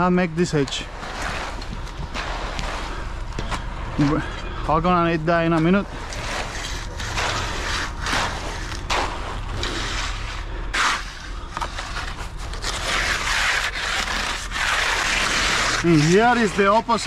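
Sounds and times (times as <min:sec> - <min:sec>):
rake scraping wet concrete: 0:00.0 - 0:17.0
trowel scraping concrete: 0:00.5 - 0:17.0.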